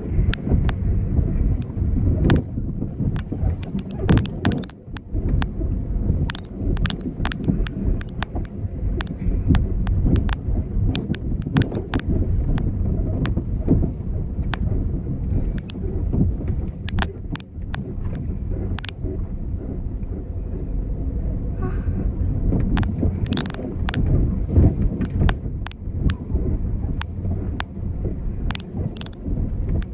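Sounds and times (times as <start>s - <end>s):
sharp clicks and rattles: 0.0s - 20.8s, 22.4s - 29.9s
car engine and tyres rumbling: 0.0s - 29.9s.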